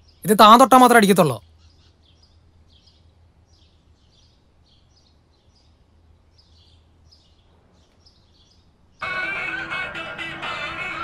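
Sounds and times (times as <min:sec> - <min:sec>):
low steady background hum: 0:00.0 - 0:09.0
faint bird chirps: 0:00.0 - 0:09.2.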